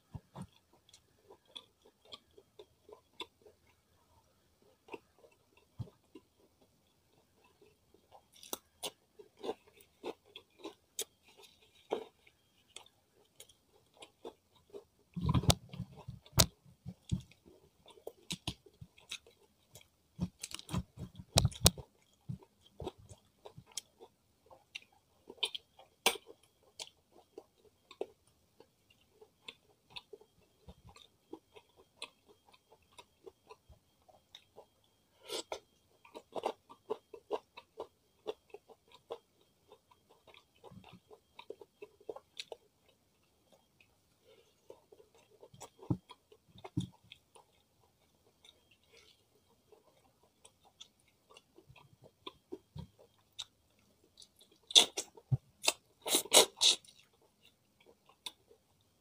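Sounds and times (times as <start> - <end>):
chewing fried chicken: 0.0 - 59.0.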